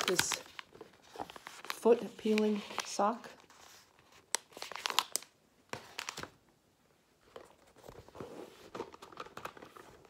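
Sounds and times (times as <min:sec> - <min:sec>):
packaging rustling: 0:00.0 - 0:06.4, 0:07.3 - 0:10.0.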